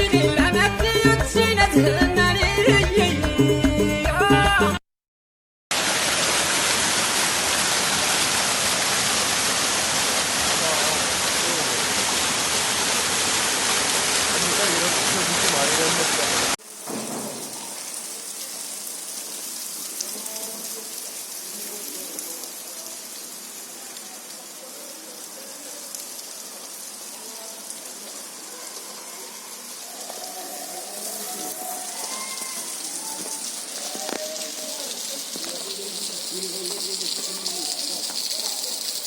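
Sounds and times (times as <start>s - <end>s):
water hissing: 5.8s - 39.0s.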